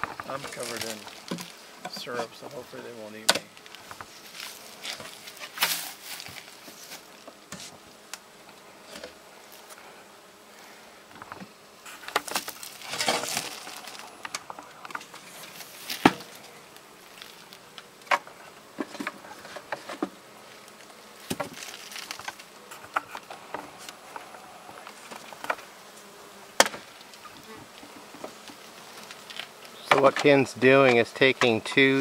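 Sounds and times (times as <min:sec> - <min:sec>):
hive tool scraping wooden frames: 0:00.0 - 0:32.0
honeybees buzzing: 0:00.0 - 0:32.0.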